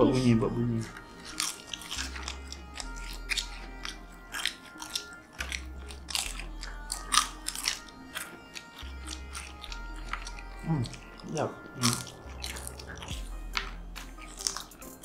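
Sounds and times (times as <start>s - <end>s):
background music with bass: 0.0s - 15.0s
people crunching potato chips: 0.7s - 15.0s.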